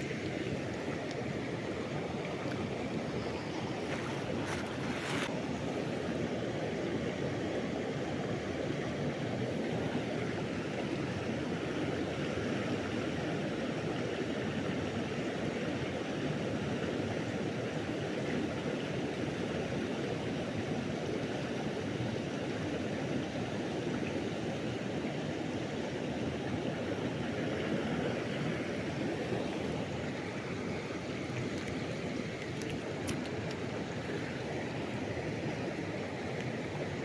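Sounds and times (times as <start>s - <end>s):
river water flowing: 0.0s - 37.0s.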